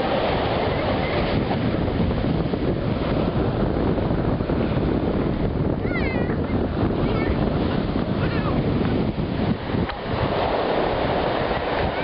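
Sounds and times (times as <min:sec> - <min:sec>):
surf breaking on shore: 0:00.0 - 0:12.0
wind on microphone: 0:00.0 - 0:12.0.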